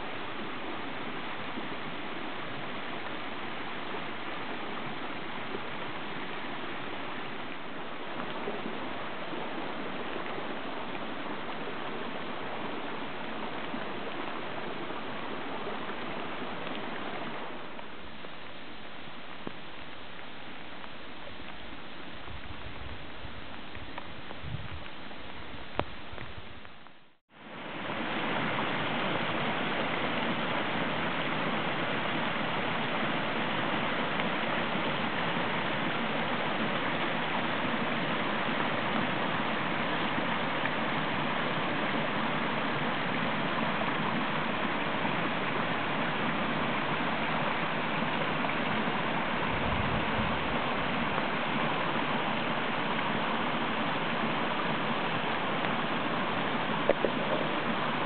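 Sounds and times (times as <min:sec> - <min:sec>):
stream rushing over cascades: 0:00.0 - 0:58.0.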